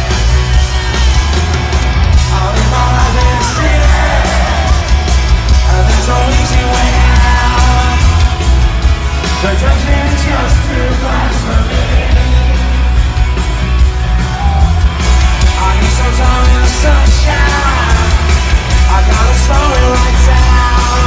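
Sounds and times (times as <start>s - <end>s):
crowd yelling and cheering: 0.0s - 21.0s
loud rock music over speakers: 0.0s - 21.0s.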